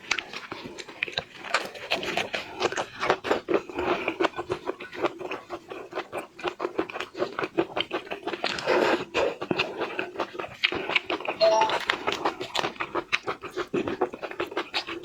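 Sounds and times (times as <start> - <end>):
eating seafood: 0.0 - 15.0.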